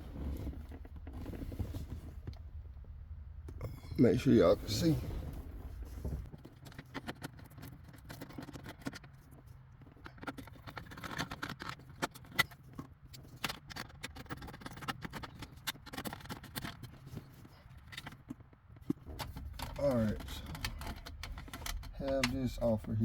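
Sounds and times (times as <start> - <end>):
car dash parts clicking and scraping: 4.2 - 23.0.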